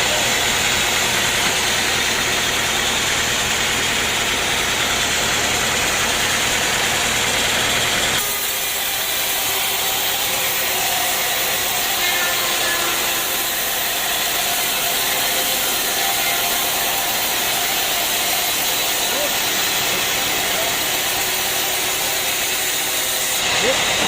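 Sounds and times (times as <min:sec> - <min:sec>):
high mechanical noise: 0:00.0 - 0:24.0
sawmill machinery humming: 0:00.0 - 0:24.0.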